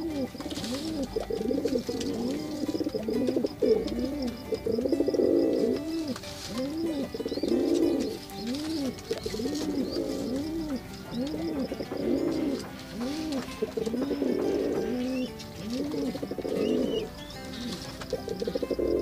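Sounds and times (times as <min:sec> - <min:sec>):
pigeon cooing: 0:00.0 - 0:19.0.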